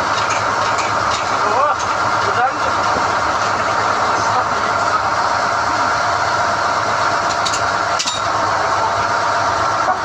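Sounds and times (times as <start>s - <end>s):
drilling rig running: 0.0s - 10.0s.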